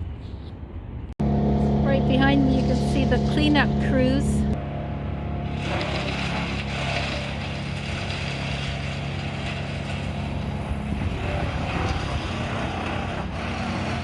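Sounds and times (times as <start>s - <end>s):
machinery engine droning: 0.9s - 14.0s.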